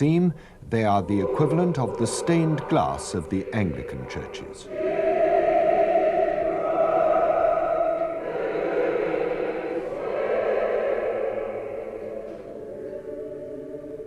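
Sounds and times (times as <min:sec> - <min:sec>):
choir singing chant: 0:00.8 - 0:14.0.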